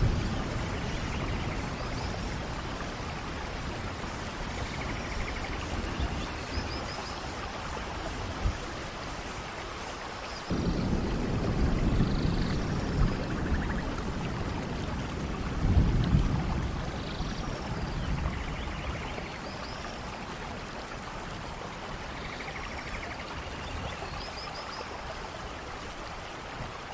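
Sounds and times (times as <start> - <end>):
low rumble of thunder: 0.0 - 9.1, 10.5 - 25.2
heavy rain: 0.0 - 26.9.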